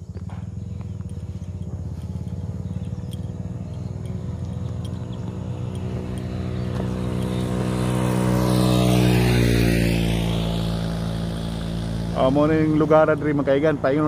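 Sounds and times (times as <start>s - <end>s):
motorcycle riding past: 0.0s - 14.0s.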